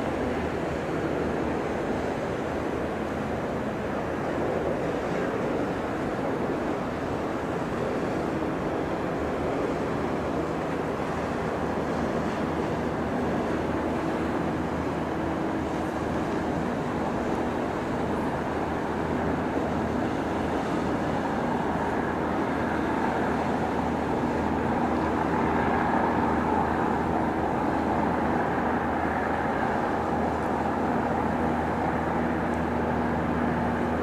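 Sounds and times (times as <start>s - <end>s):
ship machinery hum: 0.0s - 34.0s
wind and water rushing: 0.0s - 34.0s.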